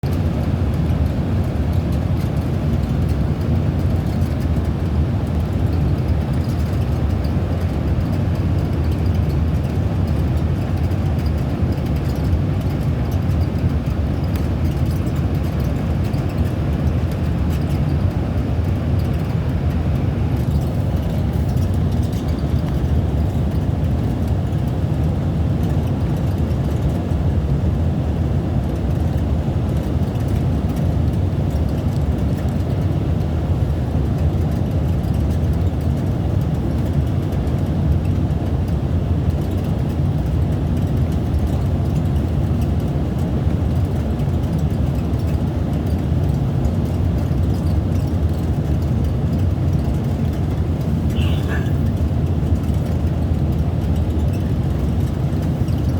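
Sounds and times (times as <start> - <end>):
propeller airliner cabin rumble: 0.0 - 55.9.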